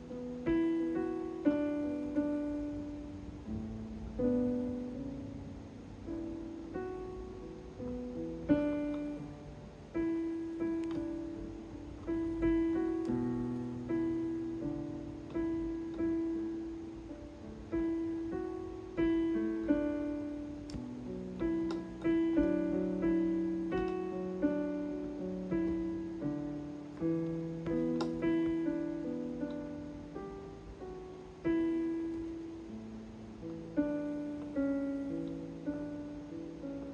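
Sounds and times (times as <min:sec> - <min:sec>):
keyboard piano notes and chords: 0:00.0 - 0:36.9.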